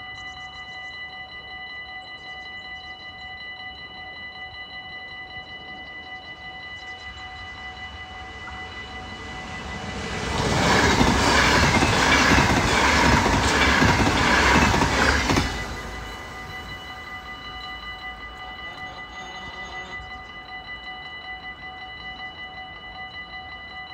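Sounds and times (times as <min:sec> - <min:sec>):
level-crossing warning bells: 0:00.0 - 0:23.9
train passing with wheel clatter: 0:03.4 - 0:23.9.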